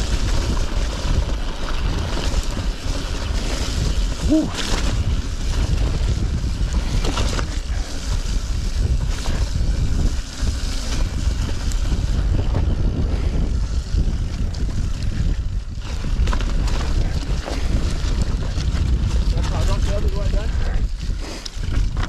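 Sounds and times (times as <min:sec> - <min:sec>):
bike rattling and clicking: 0:00.0 - 0:22.0
wind buffeting microphone: 0:00.0 - 0:22.0.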